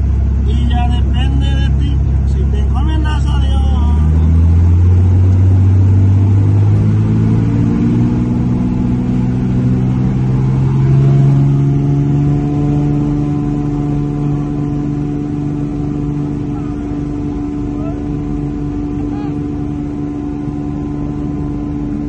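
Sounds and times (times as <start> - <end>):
piston engine and propeller: 0.0 - 22.0.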